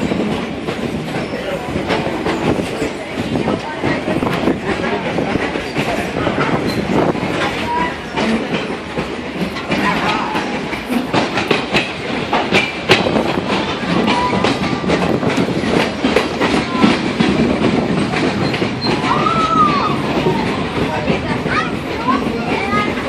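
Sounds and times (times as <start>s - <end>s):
train rumble: 0.0s - 23.0s
train wheels clicking over rails: 0.0s - 23.0s.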